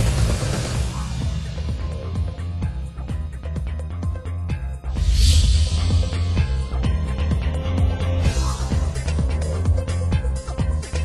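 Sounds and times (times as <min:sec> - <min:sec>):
music with steady beat and bass: 0:00.0 - 0:11.0.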